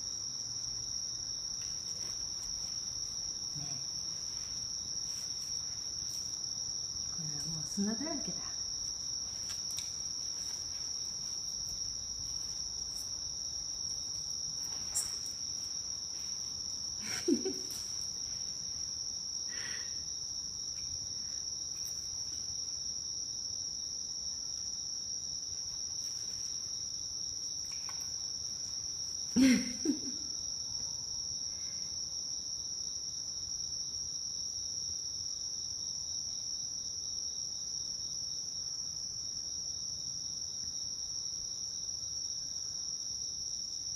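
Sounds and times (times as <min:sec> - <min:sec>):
night insects chirping: 0:00.0 - 0:43.9.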